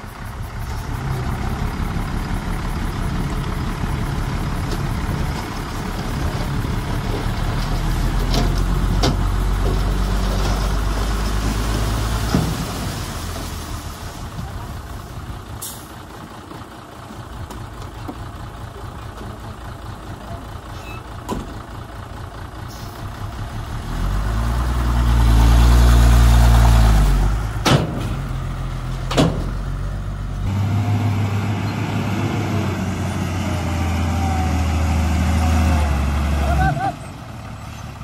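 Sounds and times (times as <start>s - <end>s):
bulldozer diesel engine running: 0.0s - 38.0s.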